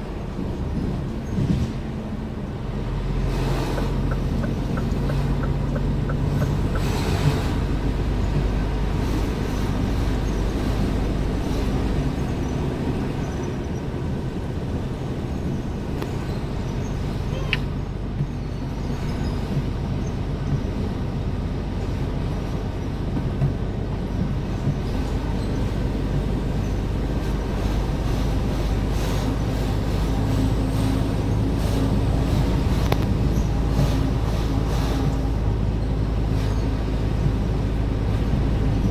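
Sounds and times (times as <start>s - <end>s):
truck diesel engine rumble: 0.0s - 38.9s.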